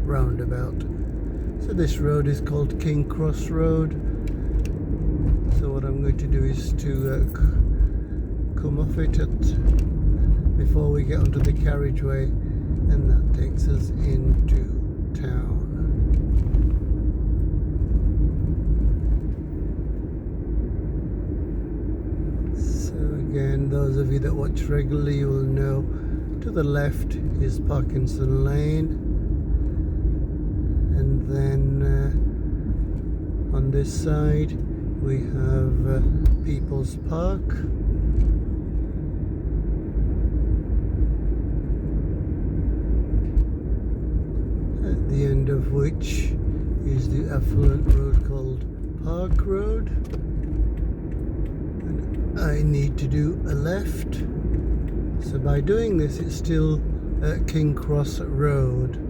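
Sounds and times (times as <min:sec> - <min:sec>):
car interior road rumble: 0:00.0 - 0:59.0.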